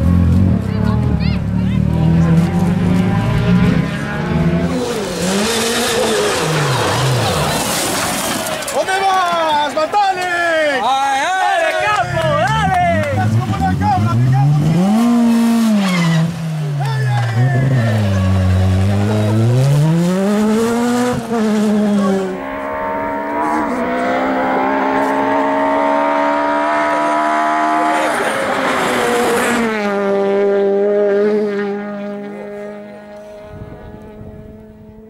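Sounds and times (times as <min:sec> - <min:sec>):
rally car engine at high revs: 0:00.0 - 0:08.2, 0:13.0 - 0:35.0
rush of car passing: 0:00.6 - 0:09.1, 0:13.0 - 0:34.9.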